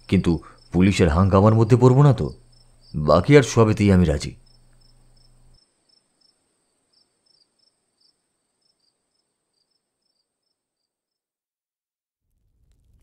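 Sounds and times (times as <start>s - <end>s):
crickets chirping: 0.0s - 11.2s
high steady insect trill: 0.0s - 11.3s.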